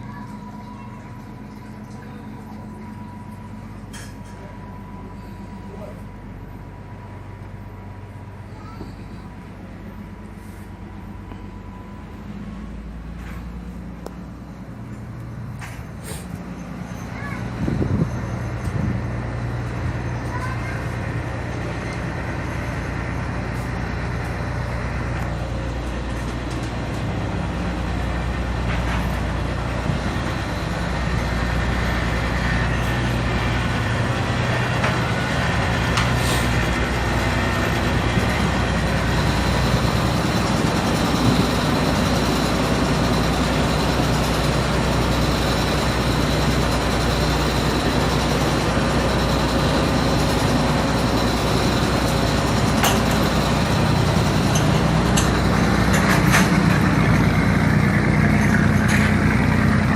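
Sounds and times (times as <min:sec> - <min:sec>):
travel noise: 0:00.0 - 0:59.9
vehicle engine running: 0:00.0 - 0:59.9.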